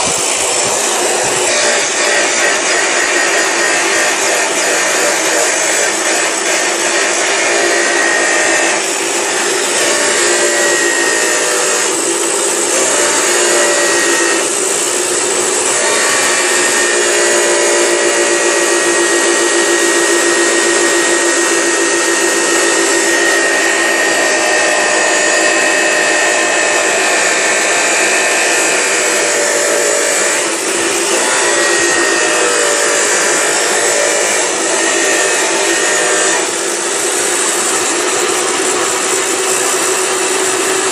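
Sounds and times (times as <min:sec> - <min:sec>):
loud continuous rasping: 0:00.0 - 0:40.9
steady tones: 0:00.0 - 0:40.9.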